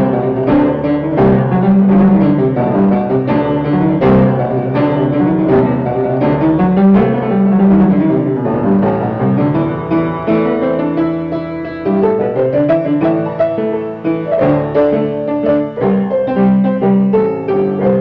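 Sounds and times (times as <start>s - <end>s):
upright piano playing: 0.0s - 18.0s.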